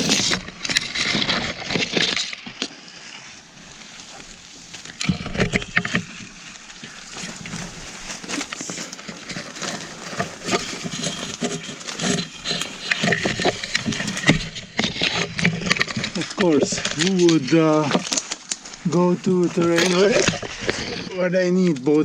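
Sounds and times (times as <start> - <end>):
footsteps through undergrowth: 0.0 - 21.1
twigs crackling and snapping: 0.0 - 22.0.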